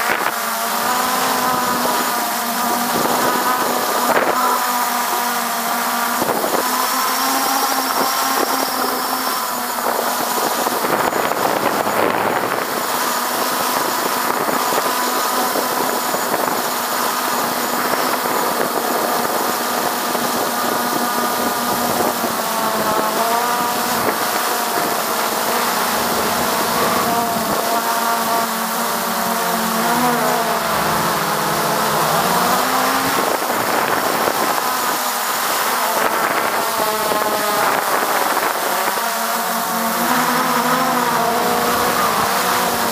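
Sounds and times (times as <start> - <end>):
drone propellers whirring: 0.0 - 42.9.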